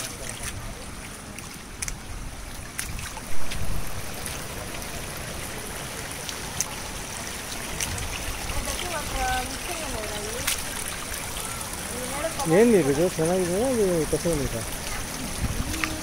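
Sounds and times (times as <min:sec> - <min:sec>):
stream running over rocks: 0:00.0 - 0:16.0.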